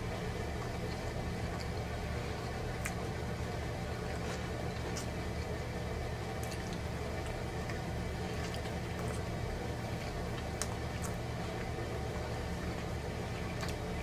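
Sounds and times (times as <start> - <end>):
steady low hum: 0.0 - 14.0
wet chewing: 0.5 - 5.6, 6.3 - 14.0.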